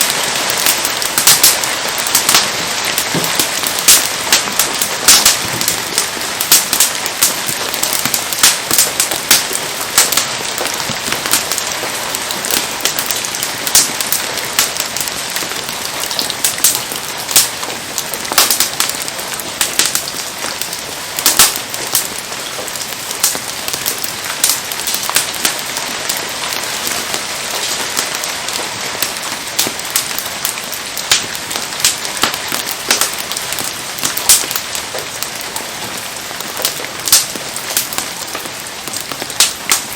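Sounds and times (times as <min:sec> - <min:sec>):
bonfire crackling and popping: 0:00.0 - 0:39.9
steady rain: 0:00.0 - 0:39.9.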